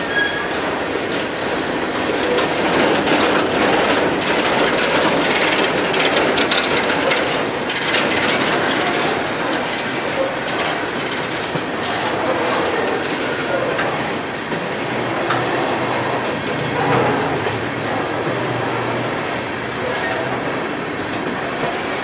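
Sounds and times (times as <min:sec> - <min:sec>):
clacks from rail joints: 0:00.0 - 0:22.0
train wheels rolling on rails: 0:00.0 - 0:22.0.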